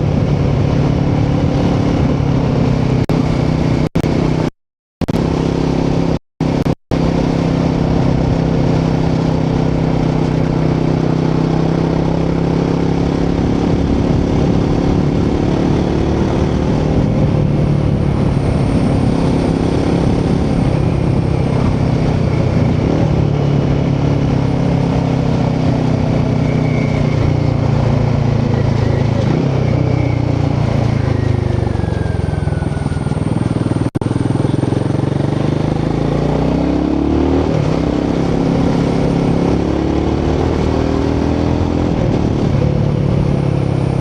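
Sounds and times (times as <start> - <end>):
motorcycle engine cruising: 0.0 - 44.0.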